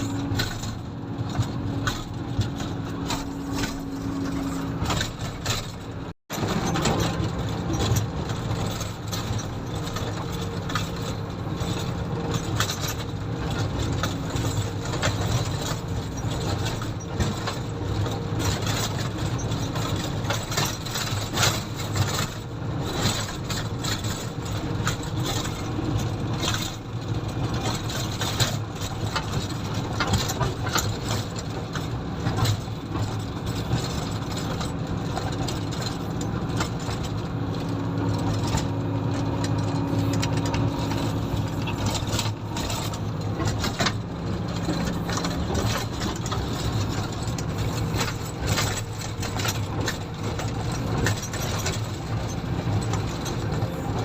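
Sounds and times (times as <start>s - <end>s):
diesel engine running: 0.0s - 54.0s
machine knocks and rattles: 0.0s - 54.0s.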